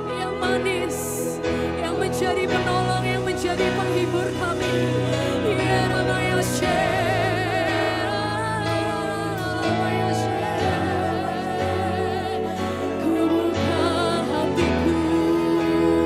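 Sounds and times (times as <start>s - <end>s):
keyboard and band sustained chords: 0.0s - 16.0s
singers with vibrato: 0.0s - 16.0s.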